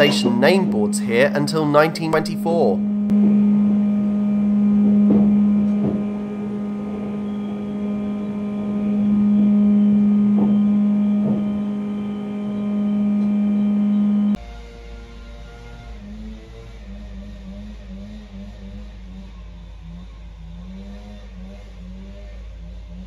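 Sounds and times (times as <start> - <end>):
electric train hum: 0.0 - 20.9.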